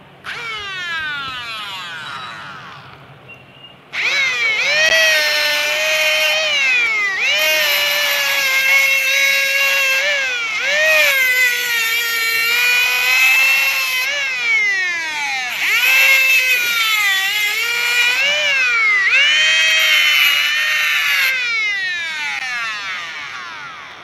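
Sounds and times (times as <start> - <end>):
small grinder motor whining: 0.0 - 24.0.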